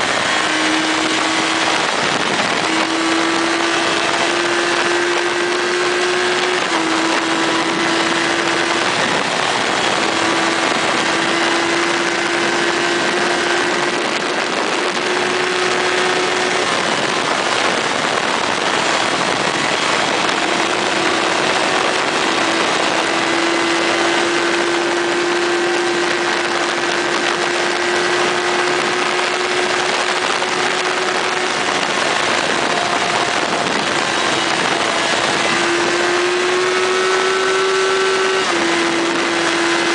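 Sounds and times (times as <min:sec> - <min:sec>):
motorcycle engine cruising: 0:00.0 - 0:39.9
wind noise rushing: 0:00.0 - 0:39.9.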